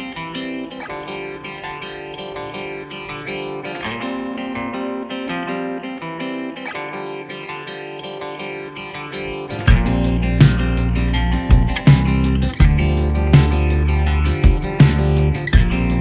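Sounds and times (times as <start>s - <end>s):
guitar music: 0.0s - 16.0s.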